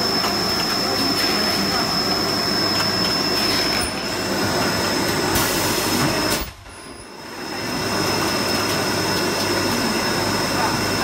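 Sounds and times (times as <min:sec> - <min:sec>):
high steady whine: 0:00.0 - 0:11.0
machine rollers humming: 0:00.0 - 0:11.0.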